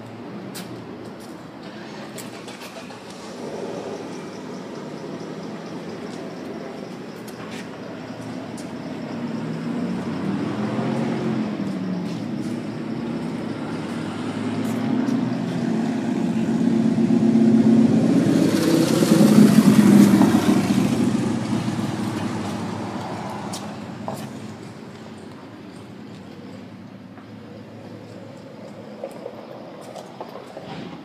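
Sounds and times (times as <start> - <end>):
road noise: 0.0 - 31.0
vehicle engine passing by: 1.6 - 31.0.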